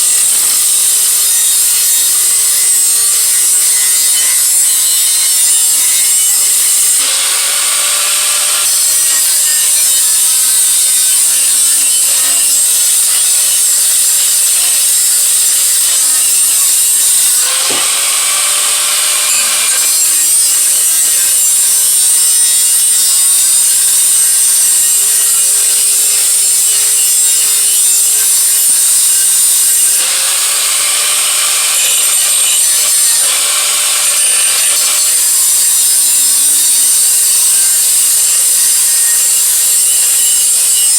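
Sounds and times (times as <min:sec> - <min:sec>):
power tool grinding metal: 0:00.0 - 0:40.9.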